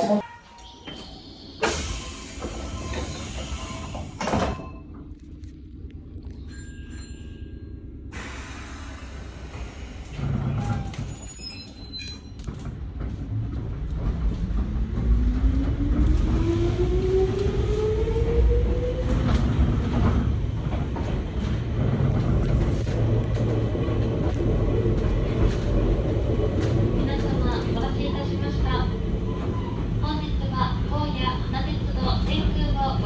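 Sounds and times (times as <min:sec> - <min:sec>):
rumble of wheels on rail: 0:00.0 - 0:33.0.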